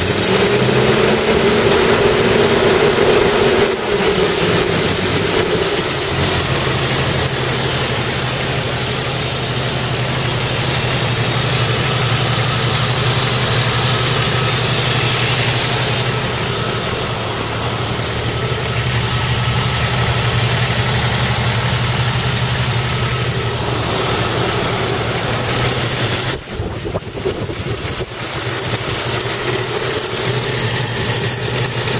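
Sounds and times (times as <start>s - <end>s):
car engine idling tappety: 0.0s - 31.9s.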